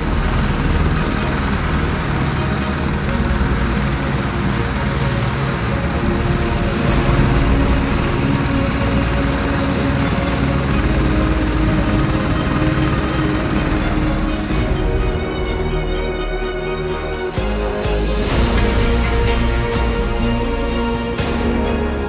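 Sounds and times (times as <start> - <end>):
helicopter rotor and turbine noise: 0.0 - 22.0
thin high whine: 0.0 - 22.0.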